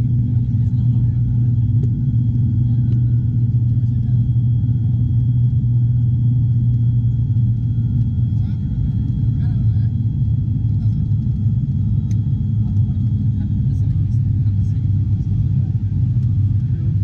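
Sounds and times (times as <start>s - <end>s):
propeller plane cabin hum: 0.0s - 17.0s.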